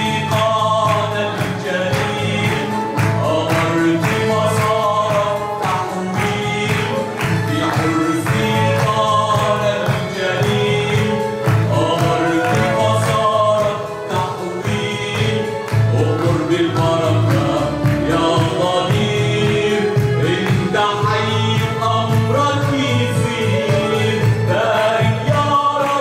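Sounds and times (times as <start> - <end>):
instrumental accompaniment with beat: 0.0 - 26.0
voices singing a hymn: 0.0 - 26.0.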